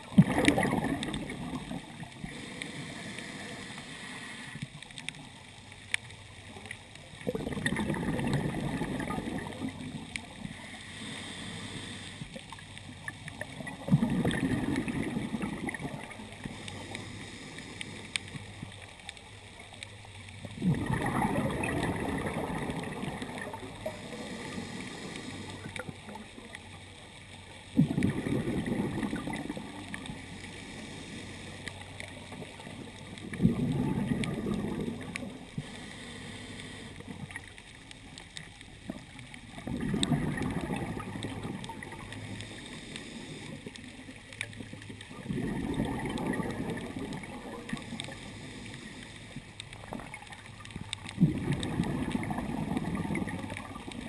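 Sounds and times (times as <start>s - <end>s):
underwater breath bubbles: 0.0s - 4.9s, 6.6s - 18.9s, 20.4s - 26.6s, 27.7s - 54.0s
underwater background: 0.0s - 54.0s.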